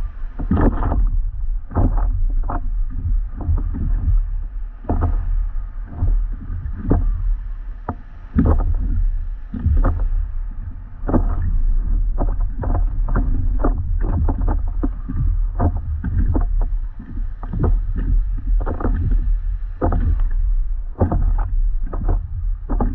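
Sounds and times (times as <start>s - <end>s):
paddle splashing through water: 0.0s - 22.9s
steady low rumble: 0.0s - 22.9s.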